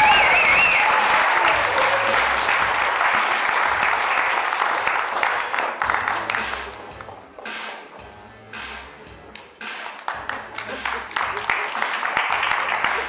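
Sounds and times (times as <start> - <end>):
audience applauding: 0.0 - 7.7, 9.4 - 13.0.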